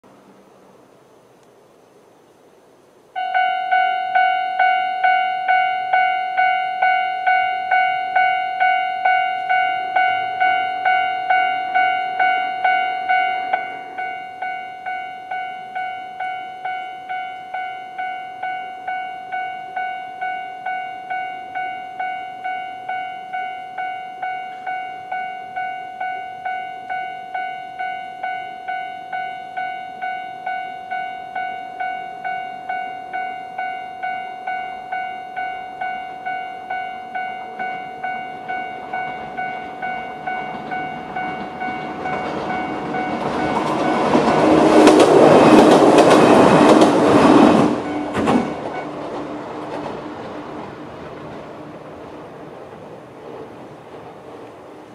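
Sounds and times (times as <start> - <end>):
electric train passing: 0.1 - 54.9
level-crossing warning bell: 3.2 - 52.2.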